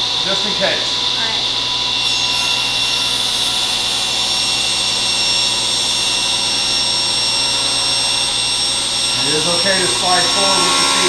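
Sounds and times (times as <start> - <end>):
table saw ripping a board: 2.0 - 11.0.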